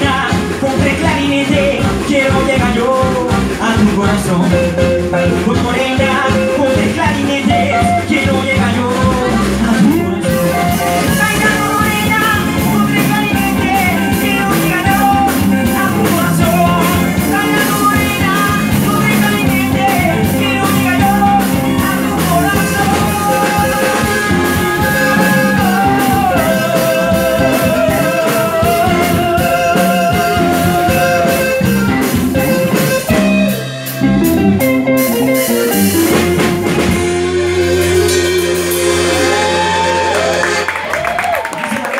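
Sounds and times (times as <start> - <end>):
lead singer singing: 0.0 - 41.9
live rock band playing: 0.0 - 41.9.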